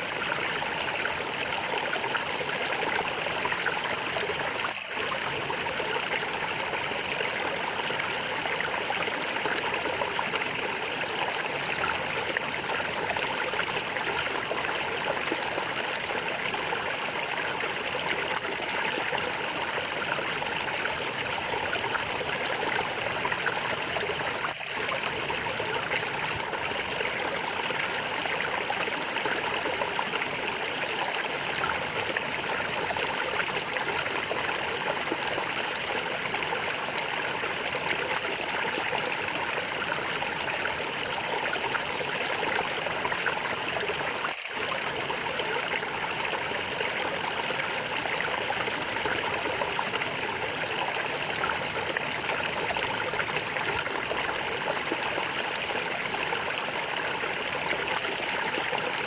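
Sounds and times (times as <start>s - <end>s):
stream of water gurgling: 0.0s - 59.0s.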